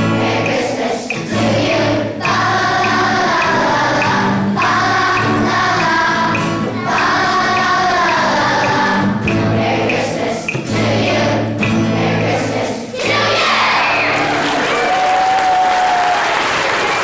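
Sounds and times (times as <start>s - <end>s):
children's choir singing: 0.0s - 14.7s.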